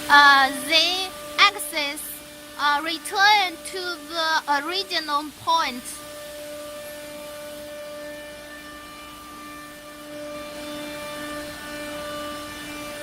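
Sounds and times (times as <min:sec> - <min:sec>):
machine axis drives whining: 0:00.0 - 0:13.0.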